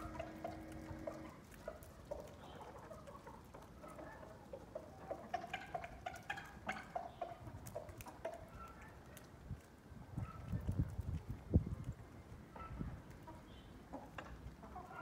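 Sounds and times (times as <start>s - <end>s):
chickens clucking: 0.0s - 9.4s, 10.1s - 15.0s
beaks pecking on tiled floor: 0.0s - 15.0s.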